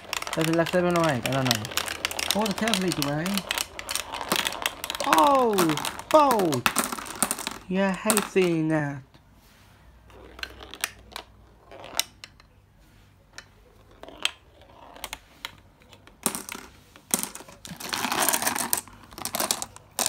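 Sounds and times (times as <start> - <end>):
marbles clicking on track: 0.0 - 8.7, 10.1 - 12.4, 13.9 - 20.0.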